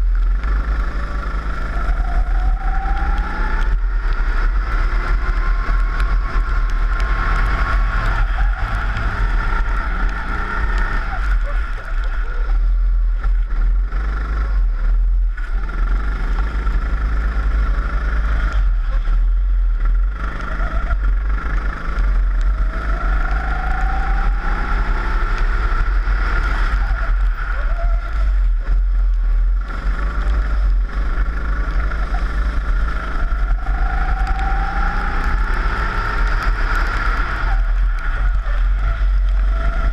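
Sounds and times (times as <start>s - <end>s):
kart engine revving: 0.0s - 39.9s
wind rumble on microphone: 0.0s - 39.9s.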